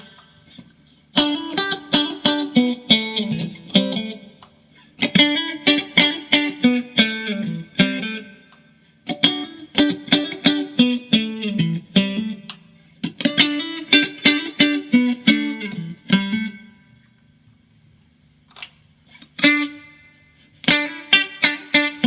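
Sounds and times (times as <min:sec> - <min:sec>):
electric guitar notes and chords: 0:00.0 - 0:17.1, 0:19.1 - 0:22.0.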